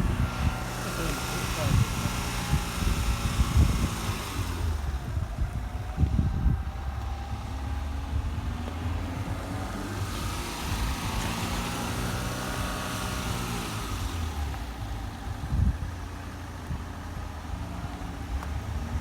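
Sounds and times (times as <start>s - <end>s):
car engines passing: 0.0s - 19.0s.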